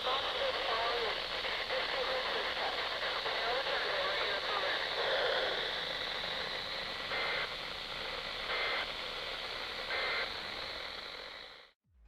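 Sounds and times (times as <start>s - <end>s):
radio static: 0.0s - 11.8s.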